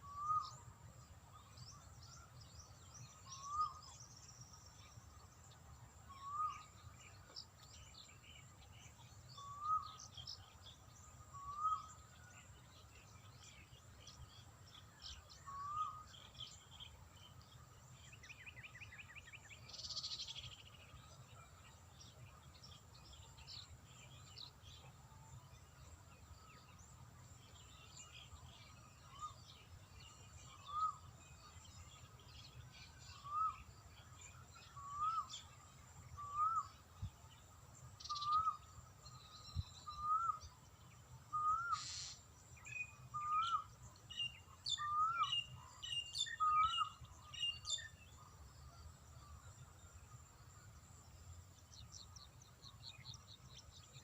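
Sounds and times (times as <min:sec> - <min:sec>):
faint chirps and ticks: 0:00.0 - 0:54.0.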